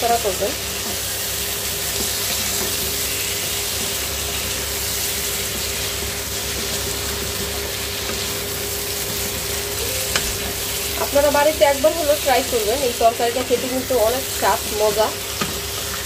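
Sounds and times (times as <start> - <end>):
fish sizzling in wok: 0.0 - 16.0.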